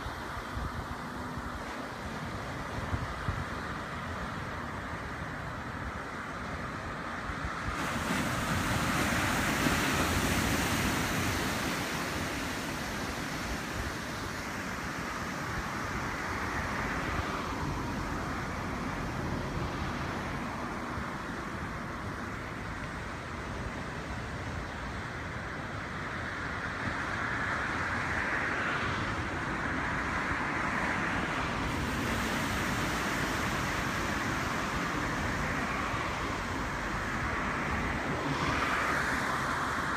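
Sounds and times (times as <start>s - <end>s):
surf washing onto a beach: 0.0s - 39.9s.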